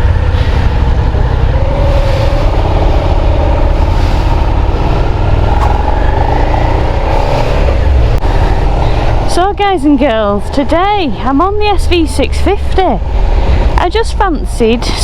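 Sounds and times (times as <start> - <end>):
motorcycle engine: 0.0 - 15.0
wind rumble on microphone: 0.0 - 15.0.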